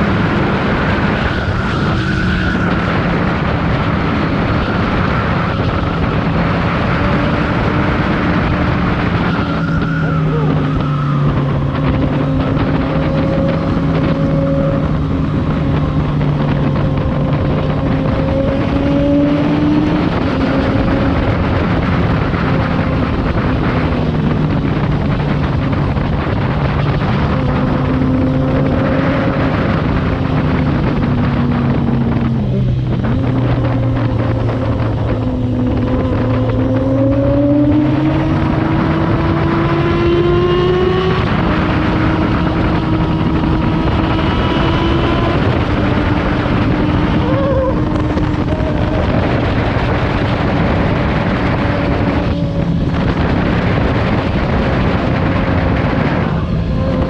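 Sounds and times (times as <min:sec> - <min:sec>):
motorcycle engine cruising: 0:00.0 - 0:57.0
steady rushing noise: 0:00.0 - 0:57.0.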